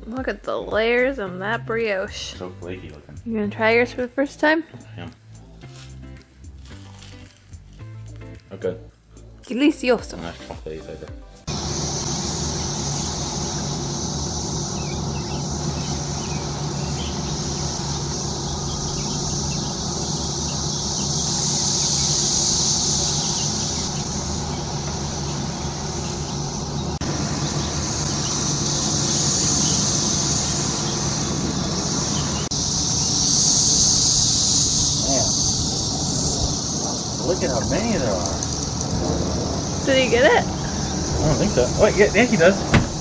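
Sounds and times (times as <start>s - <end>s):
cicadas buzzing: 0.5s - 8.4s, 9.5s - 43.0s.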